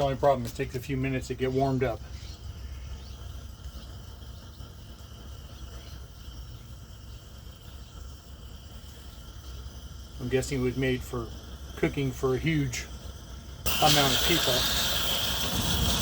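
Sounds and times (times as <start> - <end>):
insects chirring: 0.0 - 16.0
stove flame rumbling: 0.0 - 16.0.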